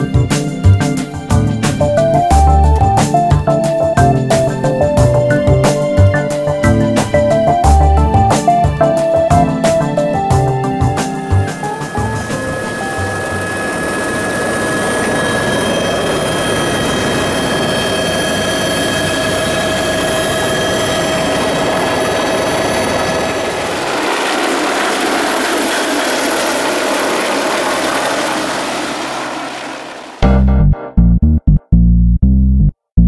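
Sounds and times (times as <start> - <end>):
helicopter turbine whine: 0.0 - 30.2
rushing rotor and wind noise: 0.0 - 30.2.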